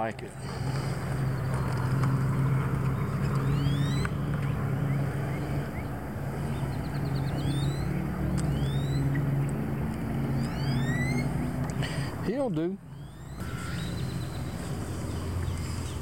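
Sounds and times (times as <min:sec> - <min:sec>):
birds chirping: 0:00.0 - 0:16.0
electric trolling motor humming: 0:00.3 - 0:12.2, 0:12.9 - 0:16.0.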